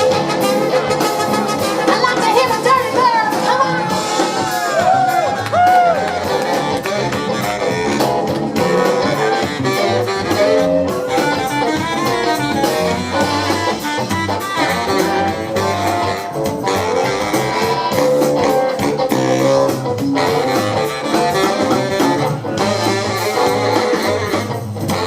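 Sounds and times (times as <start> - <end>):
live soul-blues band: 0.0 - 25.0.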